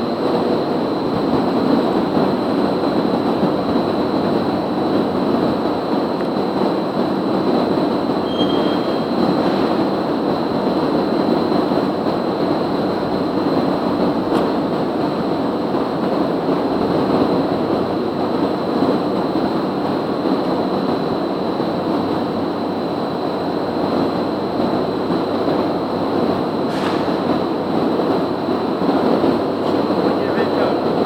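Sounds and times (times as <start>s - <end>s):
constant high whine: 0.0s - 31.0s.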